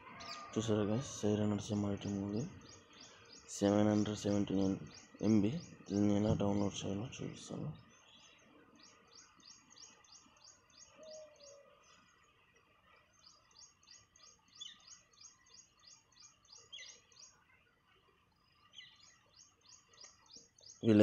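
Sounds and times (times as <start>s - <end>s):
lower bird calls: 0.0s - 12.4s, 13.1s - 17.6s
high bird chirps: 1.6s - 12.2s, 13.2s - 17.5s, 18.5s - 21.0s.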